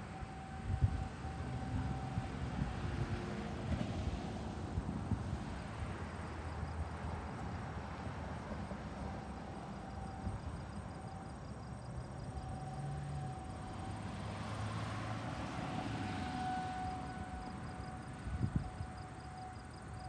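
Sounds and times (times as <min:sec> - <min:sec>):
distant tornado warning siren: 0:00.0 - 0:20.0.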